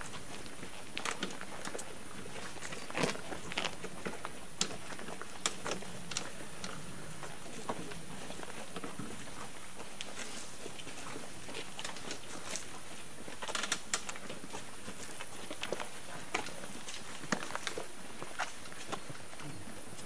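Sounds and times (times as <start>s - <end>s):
footsteps and shuffling: 0.0s - 20.0s.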